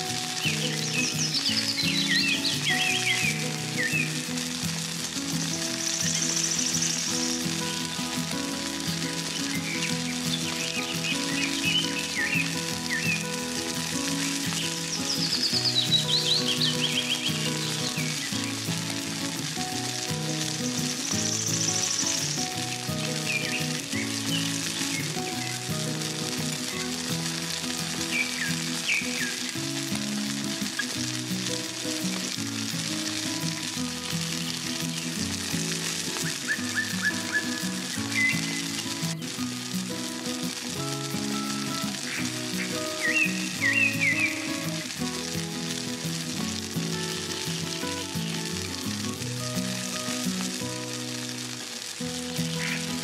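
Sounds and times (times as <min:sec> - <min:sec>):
instrumental music: 0:00.0 - 0:53.0
onions frying in sizzling oil: 0:00.0 - 0:53.0.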